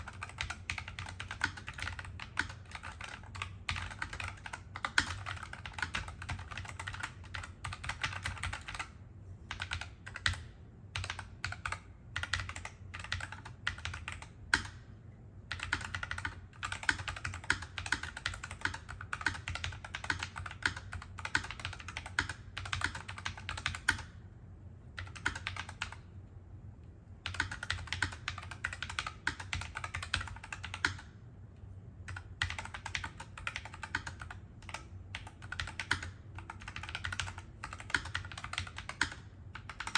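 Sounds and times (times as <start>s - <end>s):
mechanical keyboard typing: 0.0s - 14.8s, 15.5s - 24.2s, 25.0s - 26.0s, 27.2s - 31.2s, 32.1s - 39.9s
faint low hum: 0.0s - 39.9s.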